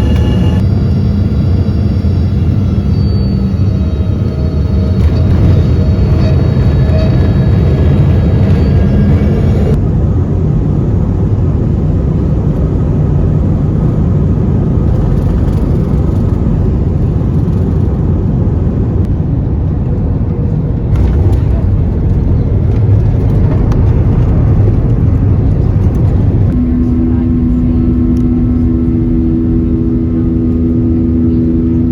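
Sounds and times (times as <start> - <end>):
jet airliner cabin rumble: 0.0 - 31.9.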